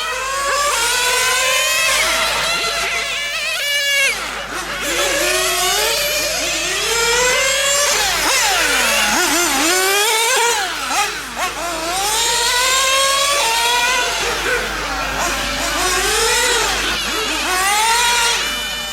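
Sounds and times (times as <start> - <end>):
rc car engines whining: 0.0 - 18.9.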